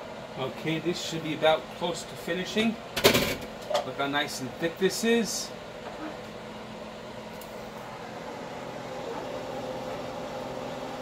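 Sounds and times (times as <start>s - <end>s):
steady hiss and hum: 0.0s - 11.0s.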